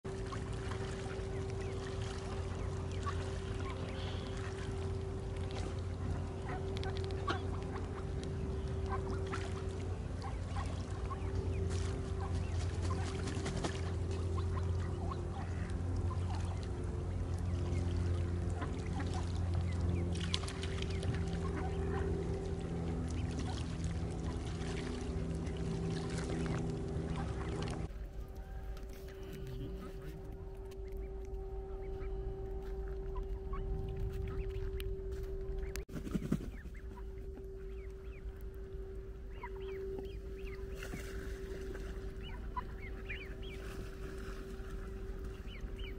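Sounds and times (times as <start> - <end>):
low hum: 0.0 - 45.9
ducks and geese calling: 0.1 - 45.9.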